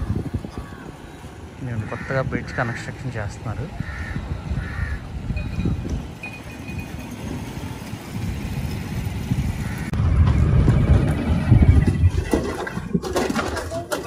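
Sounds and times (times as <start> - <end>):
wind and road noise rumble: 0.0 - 14.0.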